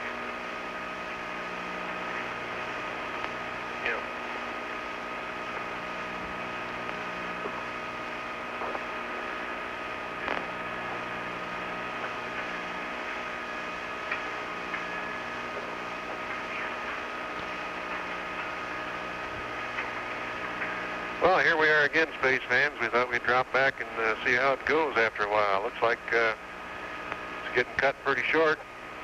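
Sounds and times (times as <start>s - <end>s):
fans humming and hissing: 0.0s - 29.0s
intermittent low hum: 0.0s - 29.0s
whining tones: 0.0s - 29.0s.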